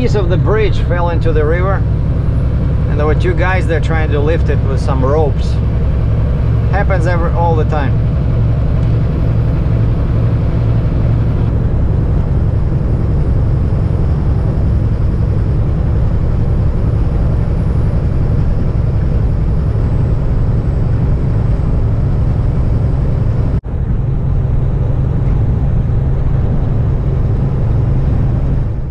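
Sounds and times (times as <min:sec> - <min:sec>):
diesel truck engine droning: 0:00.0 - 0:28.9
road noise: 0:00.0 - 0:28.9.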